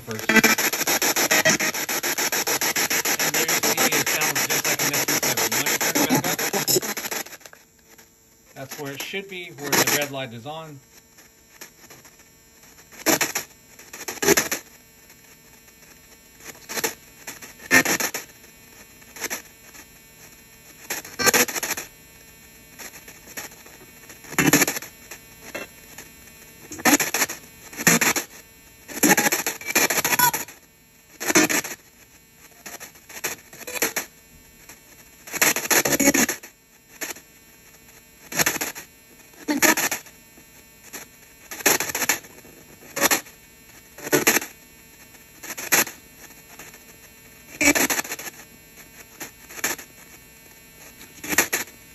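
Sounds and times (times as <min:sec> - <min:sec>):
radio static bursts: 0:00.0 - 0:51.9.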